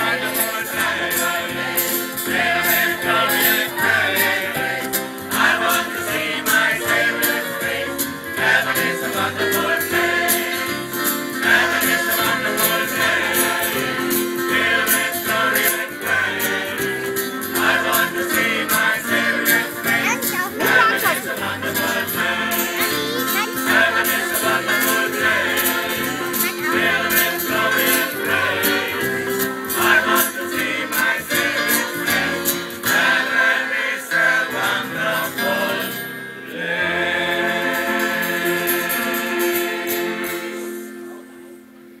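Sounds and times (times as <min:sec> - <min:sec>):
choir singing in harmony: 0:00.0 - 0:41.6.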